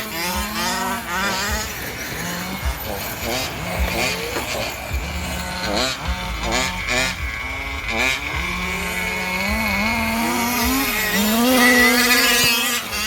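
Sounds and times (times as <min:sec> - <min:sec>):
model car engines revving: 0:00.0 - 0:13.0.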